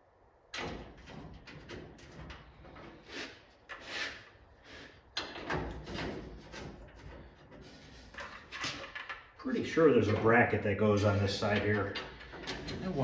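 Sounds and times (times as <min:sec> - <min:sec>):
metal parts scraping and clunking: 0:00.8 - 0:13.0.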